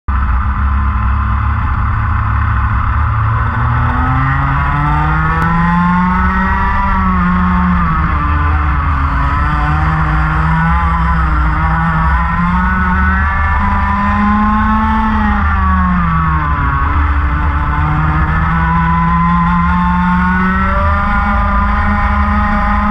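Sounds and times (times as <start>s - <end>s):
other kart engines nearby: 0.1s - 22.9s
racing kart engine: 0.1s - 22.9s.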